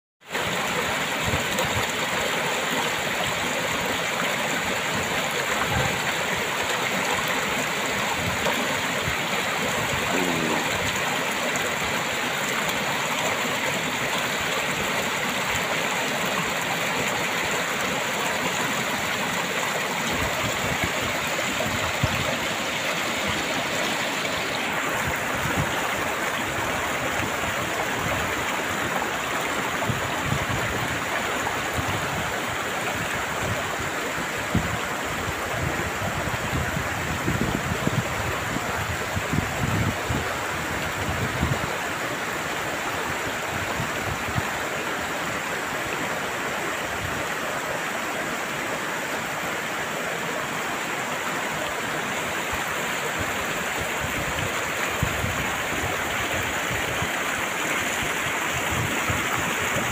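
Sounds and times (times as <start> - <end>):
stream water rushing over rocks: 0.2 - 59.9.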